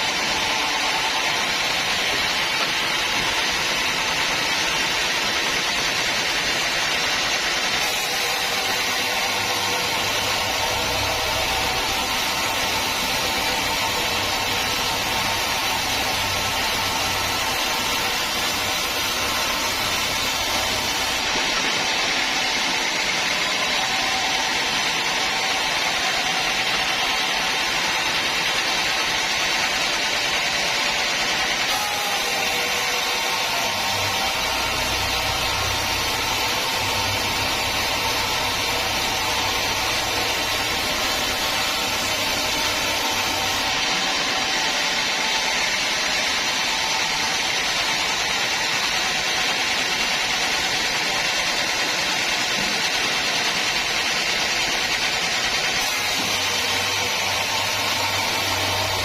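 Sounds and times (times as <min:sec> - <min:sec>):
sawmill whirring: 0:00.0 - 0:59.0.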